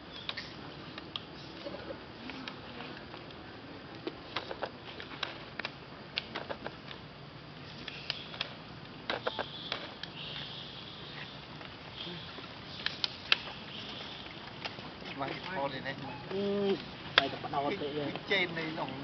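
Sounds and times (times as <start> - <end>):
steady hiss: 0.0 - 19.0
sharp clicks and crackles: 0.1 - 19.0.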